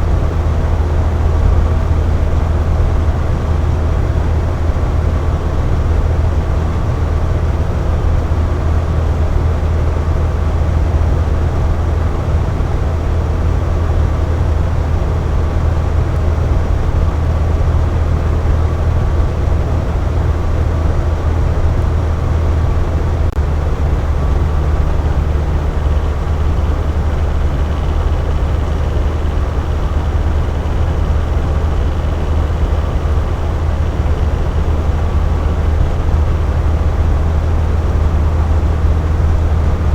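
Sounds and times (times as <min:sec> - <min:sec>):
box fan humming: 0:00.0 - 0:39.9.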